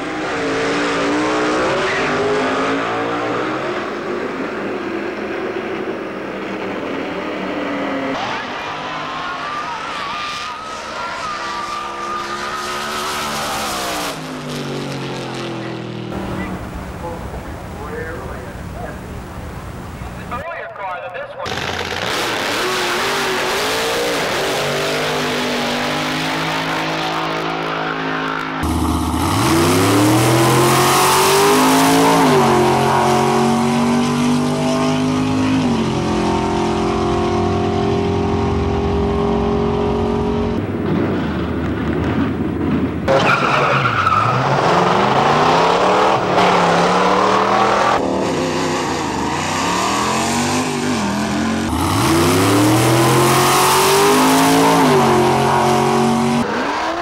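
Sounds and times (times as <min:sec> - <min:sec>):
drag racing engines at full throttle: 0:00.0 - 0:20.4, 0:21.4 - 0:57.0.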